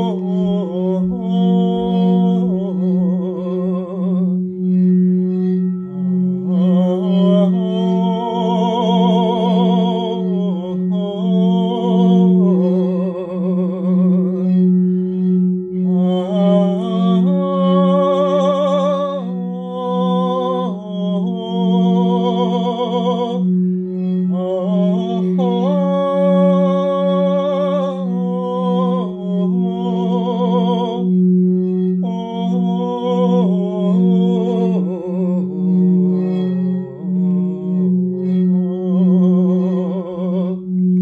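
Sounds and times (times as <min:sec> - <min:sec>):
person toning wordless notes: 0:00.0 - 0:41.0
singing bowl ringing: 0:00.0 - 0:41.0.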